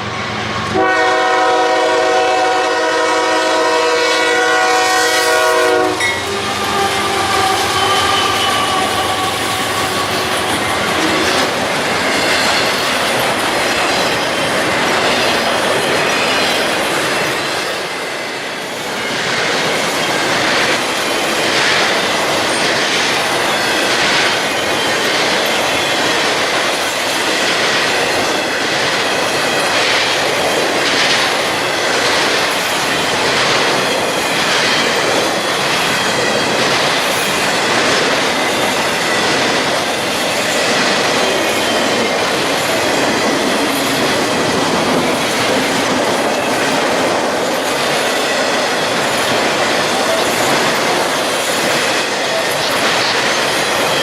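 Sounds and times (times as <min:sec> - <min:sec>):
wheels squealing on rails: 0:00.0 - 0:54.0.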